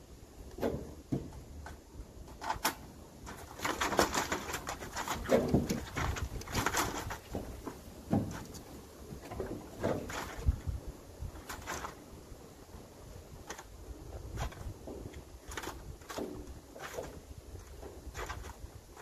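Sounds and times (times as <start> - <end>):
rustling and scraping: 0.0 - 19.0.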